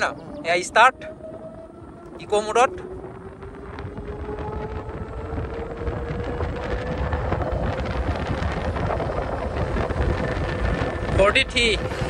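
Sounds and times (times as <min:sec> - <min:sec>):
electric scooter motor whine: 0:00.0 - 0:12.0
wind rumble on microphone: 0:00.0 - 0:12.0.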